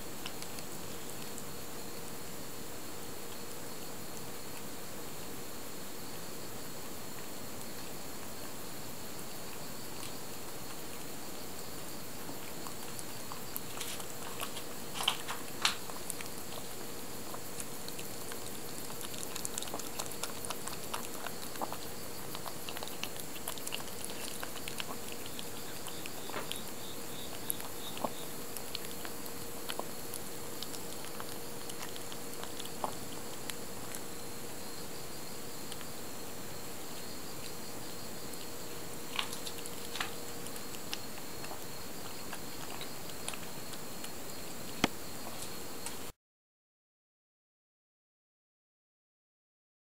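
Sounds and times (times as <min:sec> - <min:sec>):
kittens lapping: 0:00.0 - 0:01.8, 0:06.8 - 0:45.5.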